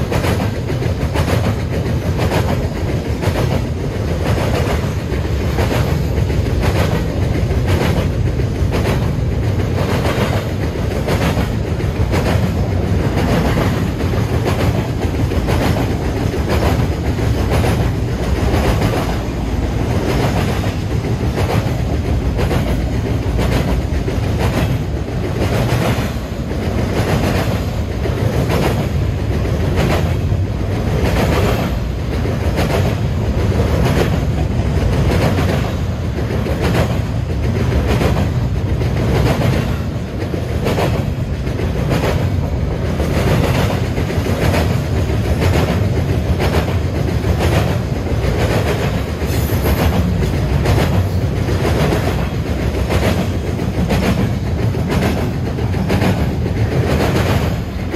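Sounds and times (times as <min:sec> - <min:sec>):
clickety-clack over rail joints: 0:00.0 - 0:57.9
steel wheels rumbling on rail: 0:00.0 - 0:57.9.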